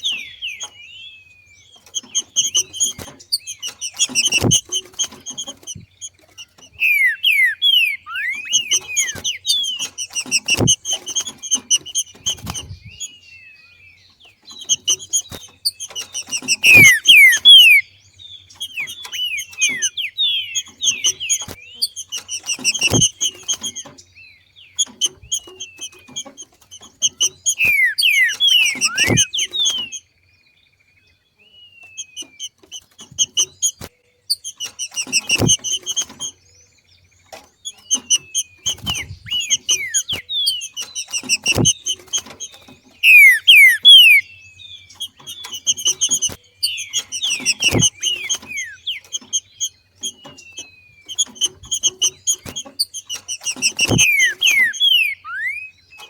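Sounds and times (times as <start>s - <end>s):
bird chattering call: 0.0s - 13.2s, 14.5s - 24.0s, 24.7s - 30.1s, 31.8s - 36.4s, 37.6s - 56.0s
sharp clicks: 1.7s - 13.0s, 14.5s - 17.8s, 18.5s - 24.0s, 24.8s - 30.0s, 31.9s - 36.4s, 37.3s - 44.2s, 44.9s - 56.0s.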